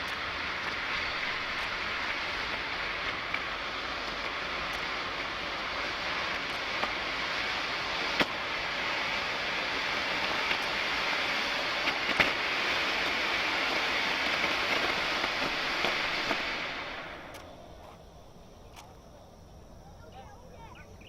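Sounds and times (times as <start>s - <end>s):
smoke firework hissing: 0.0s - 21.0s.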